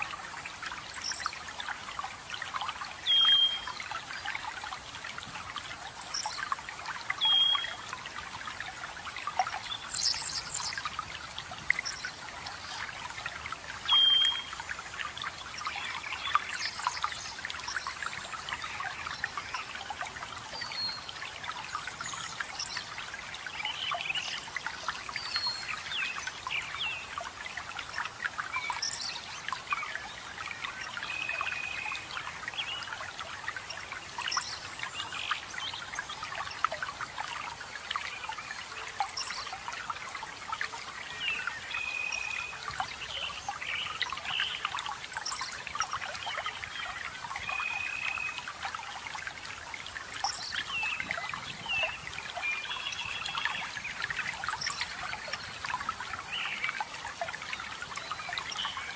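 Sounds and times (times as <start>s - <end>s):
water trickling and splashing: 0.0s - 58.9s.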